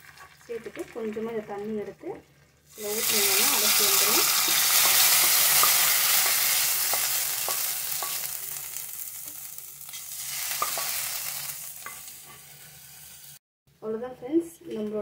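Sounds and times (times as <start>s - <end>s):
hot oil sizzling: 0.0s - 13.4s.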